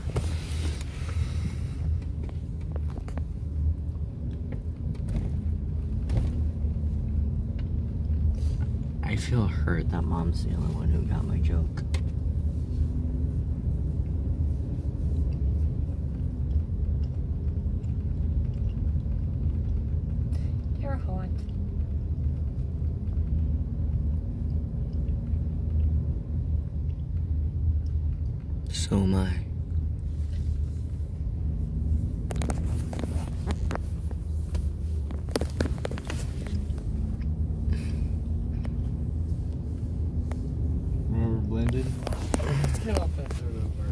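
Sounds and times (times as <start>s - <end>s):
car rumbling from inside cabin: 0.0s - 43.9s
vehicle engine and road noise: 0.0s - 43.9s.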